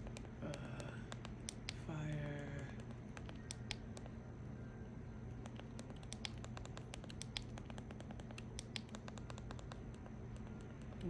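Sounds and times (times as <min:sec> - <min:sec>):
keyboard key clicks: 0:00.0 - 0:04.1, 0:05.4 - 0:11.0
low hum: 0:00.0 - 0:11.0.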